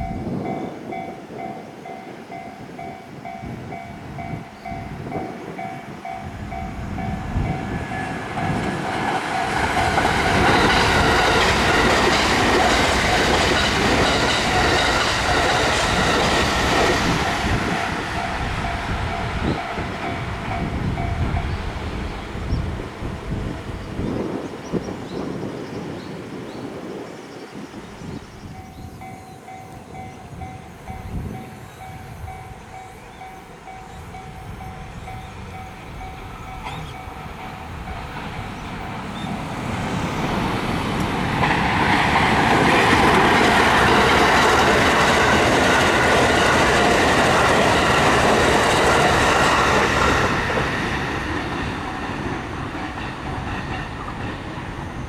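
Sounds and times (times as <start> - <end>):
level-crossing warning bell: 0.0 - 23.7, 28.5 - 55.0
train passing: 0.0 - 55.0.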